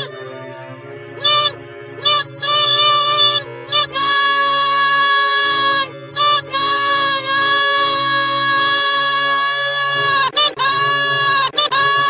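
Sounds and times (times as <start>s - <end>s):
buzzy honking notes: 0.0s - 12.0s.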